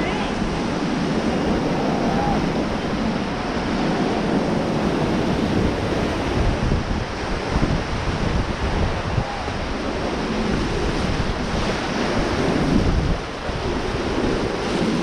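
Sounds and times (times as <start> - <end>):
whitewater rapids rushing: 0.0 - 15.0
wind buffeting microphone: 0.0 - 15.0.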